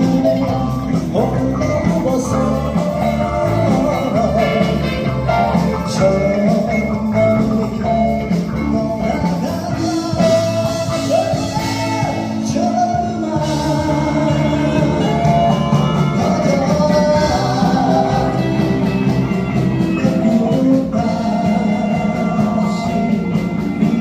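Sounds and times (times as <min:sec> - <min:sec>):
rock band playing: 0:00.0 - 0:24.0
wavering lead guitar melody: 0:00.0 - 0:24.0.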